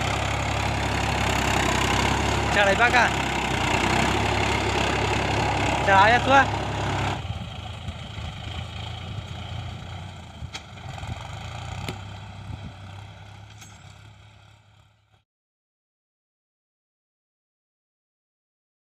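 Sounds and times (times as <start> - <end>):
tractor diesel engine running: 0.0 - 15.2.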